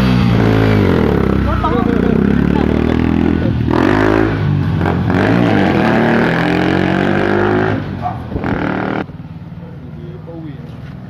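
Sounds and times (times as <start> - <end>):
motorcycle accelerating: 0.0 - 11.0.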